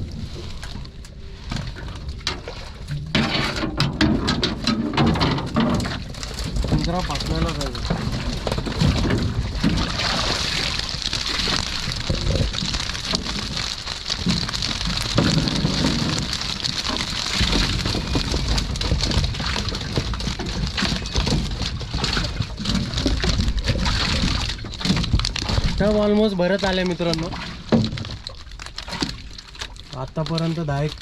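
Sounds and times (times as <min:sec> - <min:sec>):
water splashing and dripping: 0:00.0 - 0:31.0.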